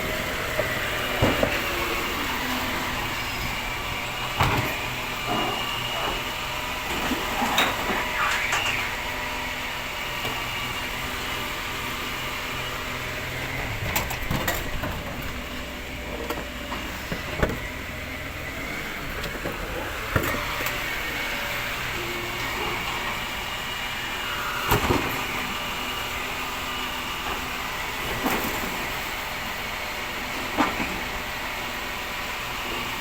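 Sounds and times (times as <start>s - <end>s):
garbage truck engine running: 0.0s - 33.0s.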